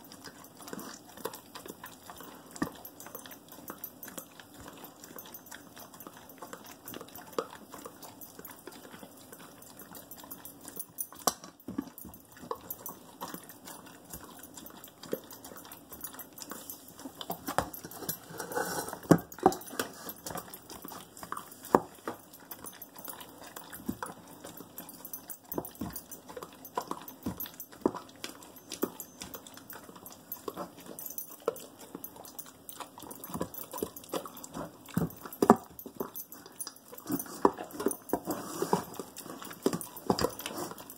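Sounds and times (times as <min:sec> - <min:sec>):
teeth and food clicking on bowl: 0:00.0 - 0:18.2, 0:19.0 - 0:38.3, 0:38.9 - 0:40.9
dog crunching kibble: 0:00.0 - 0:40.9.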